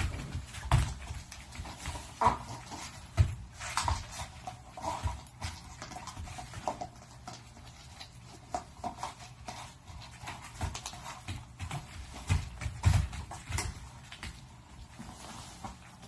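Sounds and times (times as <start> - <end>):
puppies scuffling: 0.0 - 16.0.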